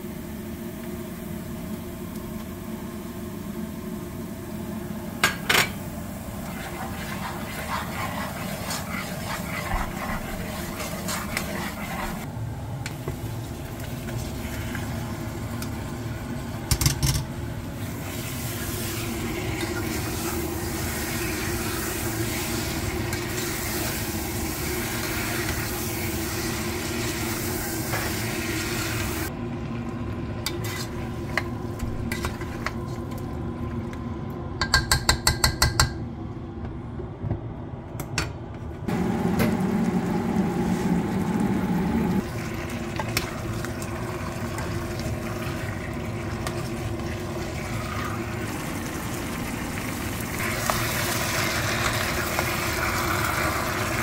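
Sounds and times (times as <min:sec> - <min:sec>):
chicken sizzling in a pot: 0:00.0 - 0:16.8, 0:17.5 - 0:29.3, 0:38.9 - 0:54.0.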